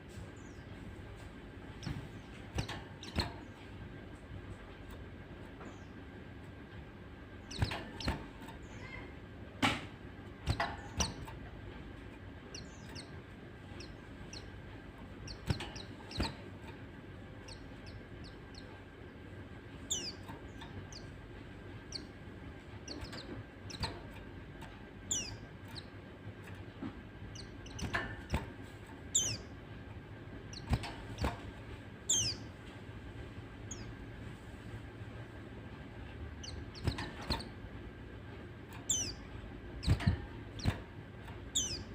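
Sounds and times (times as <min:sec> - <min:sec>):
birds chirping: 0:00.0 - 0:41.9
faint steady hum: 0:00.0 - 0:41.9.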